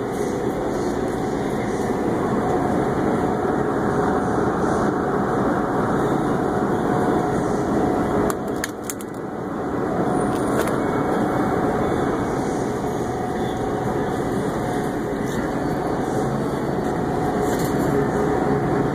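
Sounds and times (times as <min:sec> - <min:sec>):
refrigerated display case hum: 0:00.0 - 0:18.9.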